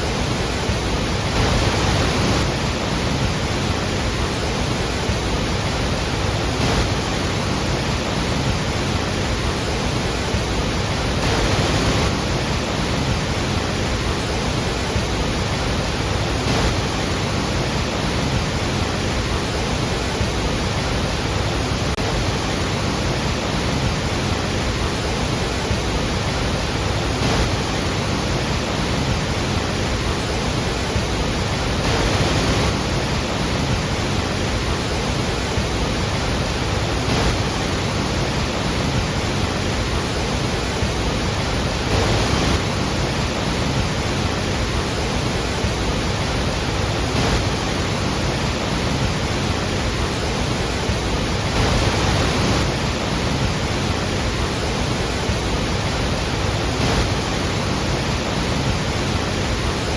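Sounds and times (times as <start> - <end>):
waterfall roar: 0.0 - 59.9.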